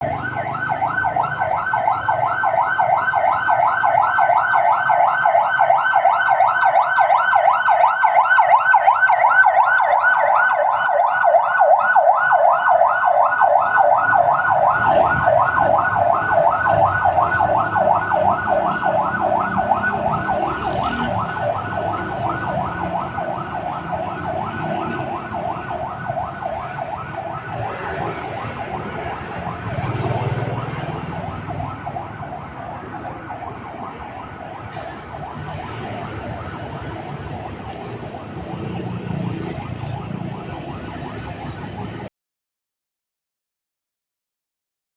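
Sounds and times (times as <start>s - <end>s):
ambulance siren yelping: 0.0s - 42.1s
road traffic noise: 0.0s - 42.1s.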